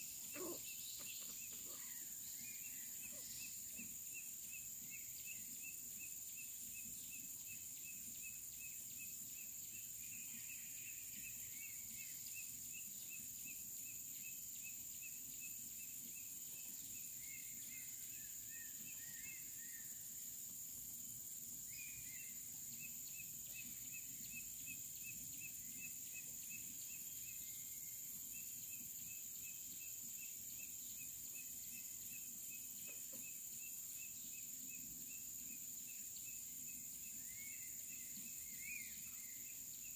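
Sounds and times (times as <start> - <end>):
insect chirping: 0.0 - 39.9
insects buzzing: 0.0 - 39.9.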